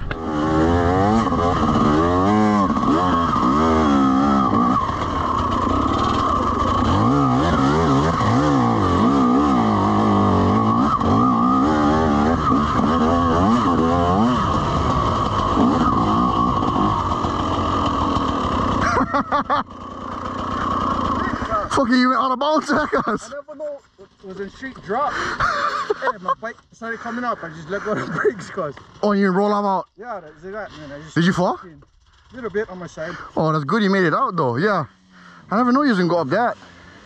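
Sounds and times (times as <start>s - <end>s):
dirt bike engine revving: 0.0s - 23.2s, 27.0s - 37.0s.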